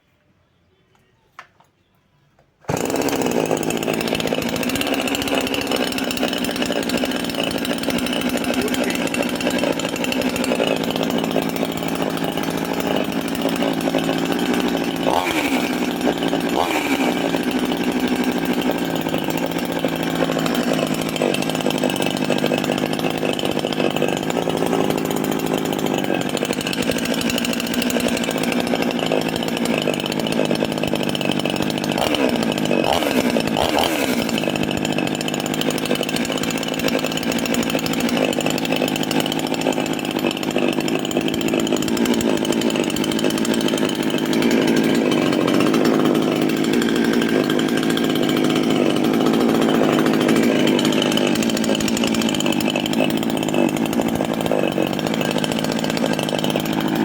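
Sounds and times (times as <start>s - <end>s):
chainsaw engine running: 2.6s - 57.0s.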